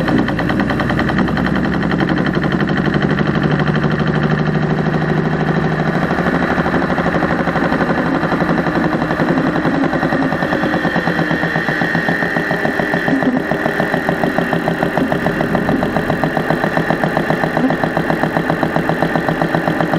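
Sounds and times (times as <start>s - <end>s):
engine running: 0.0s - 19.9s
fast rhythmic engine ticking: 0.0s - 19.9s.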